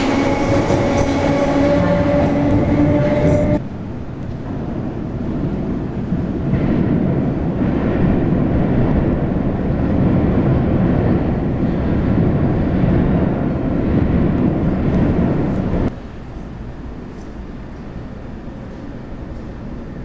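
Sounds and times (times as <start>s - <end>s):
train rumbling in tunnel: 0.0s - 20.0s.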